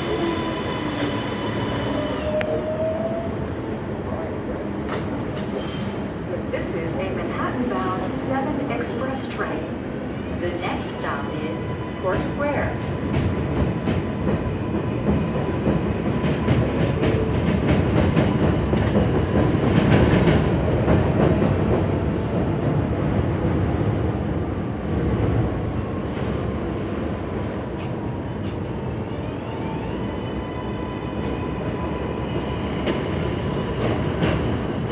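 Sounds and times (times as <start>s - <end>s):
train rumble: 0.0s - 28.8s
subway train wheels clicking: 0.0s - 34.9s.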